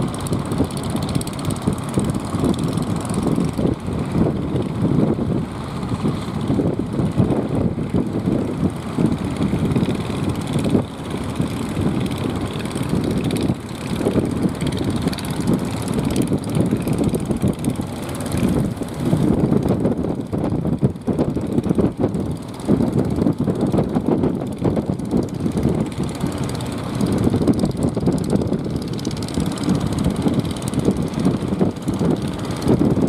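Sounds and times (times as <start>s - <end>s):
small boat engines running: 0.0s - 33.0s.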